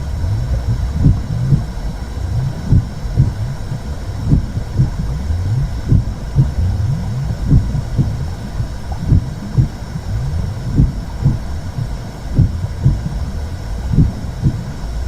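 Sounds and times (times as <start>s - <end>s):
heartbeat pulse: 0.0s - 15.0s
low muffled womb rumble: 0.0s - 15.0s.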